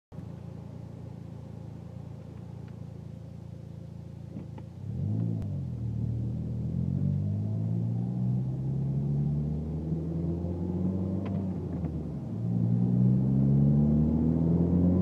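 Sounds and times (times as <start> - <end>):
car engine idling and accelerating: 0.2 - 15.0.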